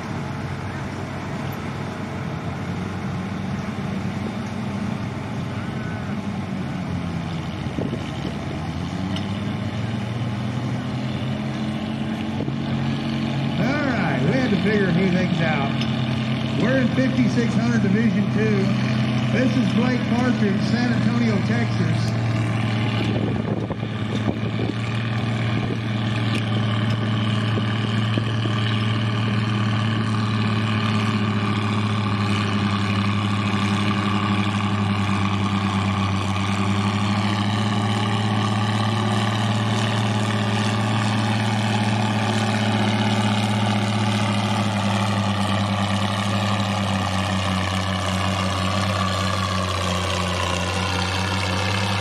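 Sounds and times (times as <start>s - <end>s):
tractor engine droning under load: 0.0s - 52.0s.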